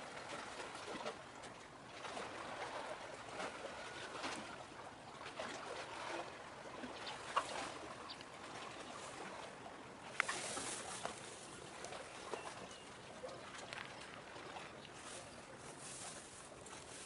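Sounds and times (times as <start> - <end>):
sea water lapping: 0.0 - 17.0.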